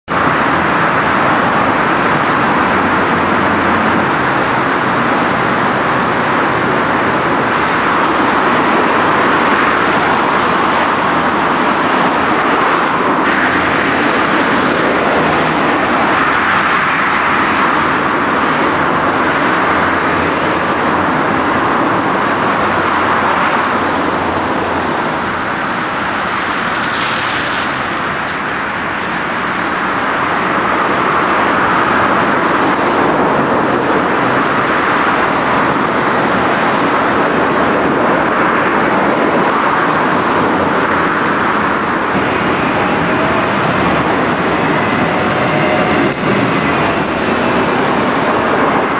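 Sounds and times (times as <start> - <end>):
moving tram rushing hum: 0.1 - 48.9.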